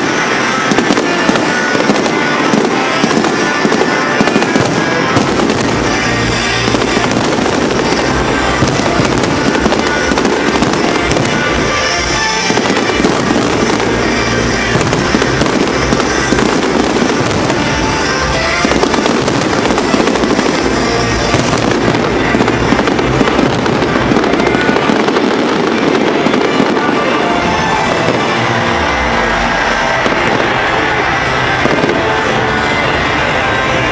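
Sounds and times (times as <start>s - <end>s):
fireworks rapid bangs and crackling: 0.0s - 33.9s.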